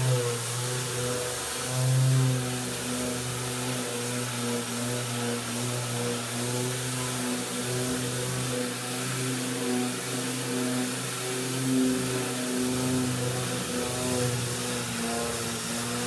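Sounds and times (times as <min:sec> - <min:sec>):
electric sander: 0:00.0 - 0:16.0
vacuum cleaner: 0:00.0 - 0:16.0.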